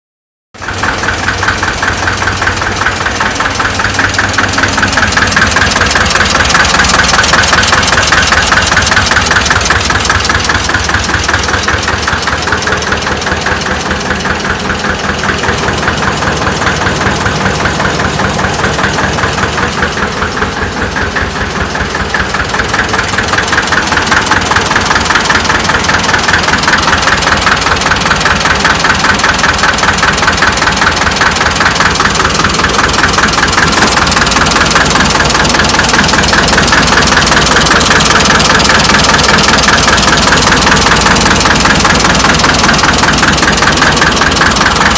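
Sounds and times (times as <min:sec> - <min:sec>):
tractor diesel engine idling: 0:00.6 - 0:44.9.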